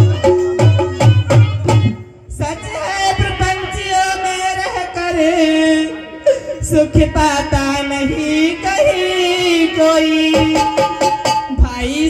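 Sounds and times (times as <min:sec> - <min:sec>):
harmonium: 0:00.0 - 0:12.0
person singing through loudspeakers: 0:00.0 - 0:12.0.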